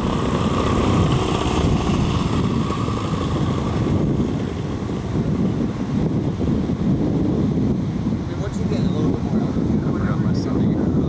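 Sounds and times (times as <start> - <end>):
paramotor engine and propeller: 0.0 - 11.0
wind buffeting microphone: 0.0 - 11.0.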